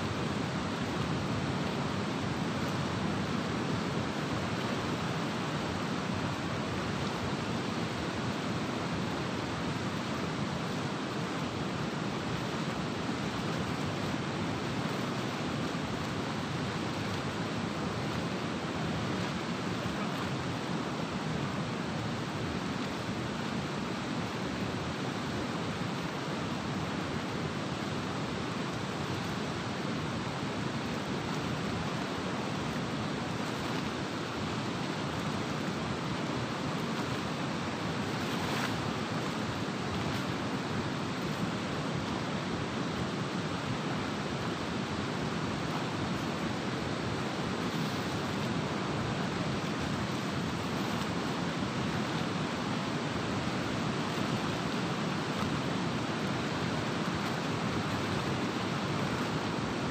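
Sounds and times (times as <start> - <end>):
river water rushing through gates: 0.0 - 59.9.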